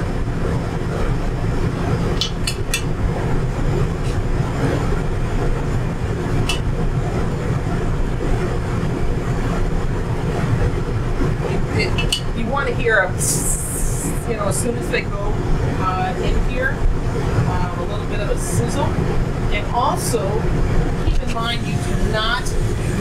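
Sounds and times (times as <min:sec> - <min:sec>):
kitchen range and ventilation rumble: 0:00.0 - 0:23.0.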